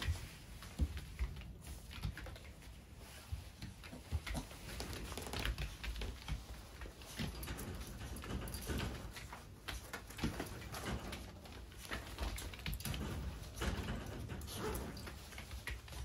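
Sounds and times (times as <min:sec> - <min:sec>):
dog claws tapping on mat: 0:00.0 - 0:16.0.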